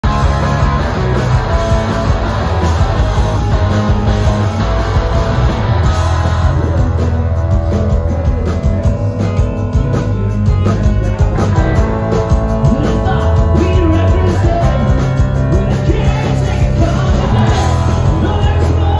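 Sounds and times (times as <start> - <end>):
bass guitar: 0.0 - 18.9
drums: 0.0 - 18.9
electric guitars: 0.0 - 18.9
keyboard: 0.0 - 18.9.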